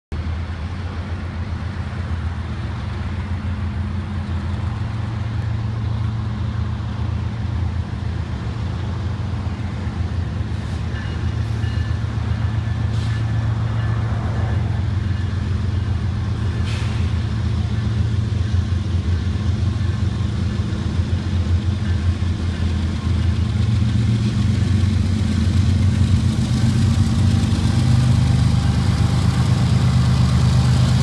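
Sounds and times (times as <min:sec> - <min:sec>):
locomotive engine rumble: 0:00.2 - 0:31.0.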